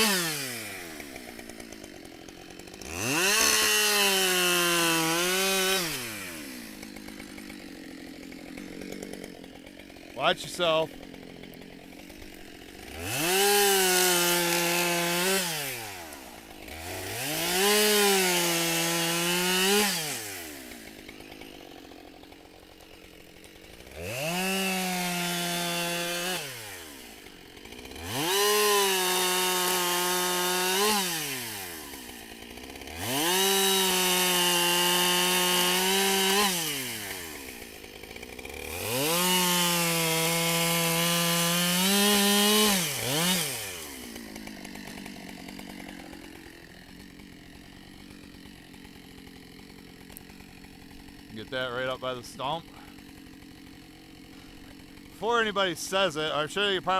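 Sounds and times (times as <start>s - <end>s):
chainsaw revving and idling: 0.0s - 56.9s.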